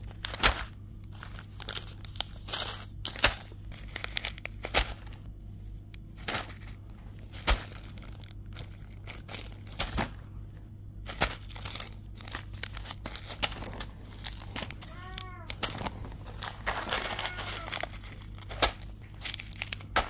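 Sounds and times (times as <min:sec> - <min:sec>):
plastic packets crinkling: 0:00.0 - 0:05.3, 0:06.0 - 0:10.3, 0:11.0 - 0:20.0
sharp plastic crackles: 0:00.0 - 0:05.3, 0:05.9 - 0:10.3, 0:11.0 - 0:20.0.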